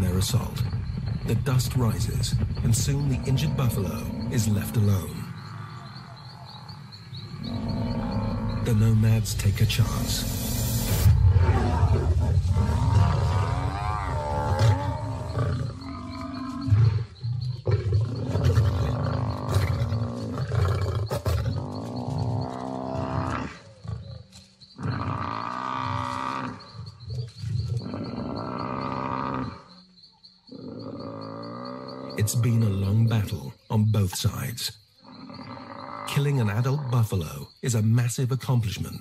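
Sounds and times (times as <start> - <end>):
lions growling and snarling: 0.0 - 29.8, 30.4 - 33.4, 35.0 - 37.4.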